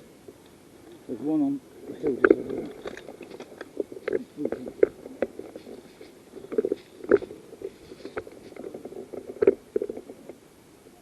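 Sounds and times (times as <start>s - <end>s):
rustling and crackling brush: 0.0s - 10.6s.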